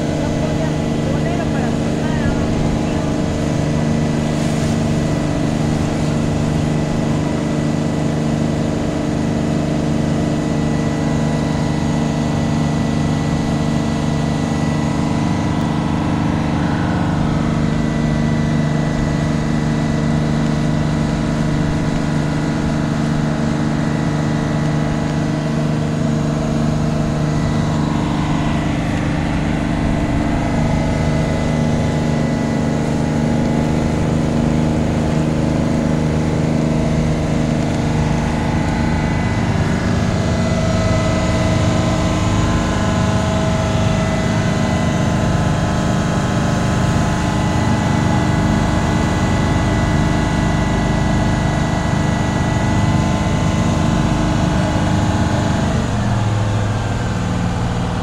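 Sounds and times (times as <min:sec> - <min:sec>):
boat engine running steadily: 0:00.0 - 0:58.0.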